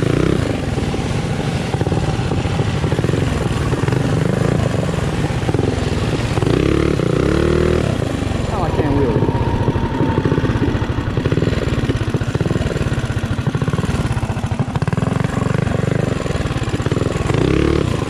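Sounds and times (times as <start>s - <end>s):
mini bike engine revving: 0.0s - 18.0s.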